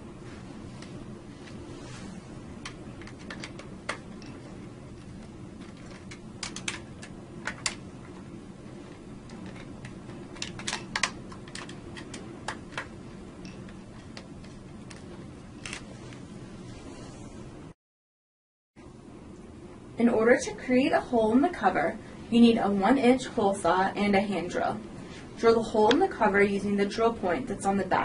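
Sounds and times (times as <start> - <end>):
steady low hum: 0.0 - 17.8, 18.8 - 28.0.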